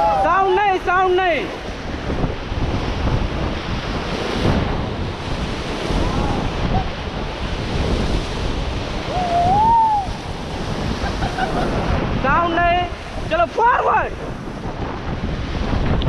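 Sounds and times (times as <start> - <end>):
rushing river water: 0.0 - 16.0
wind buffeting microphone: 0.0 - 16.0.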